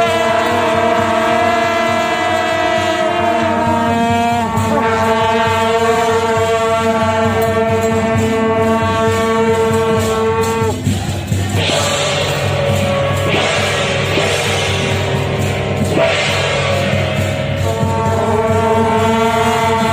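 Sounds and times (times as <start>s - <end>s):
crashing cymbals: 0.0s - 19.9s
held wind instrument notes: 0.0s - 19.9s.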